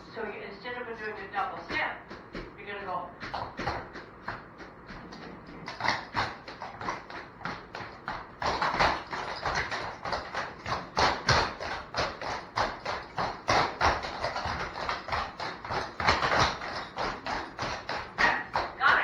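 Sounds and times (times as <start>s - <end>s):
tap shoes striking hard floor: 1.0s - 19.0s.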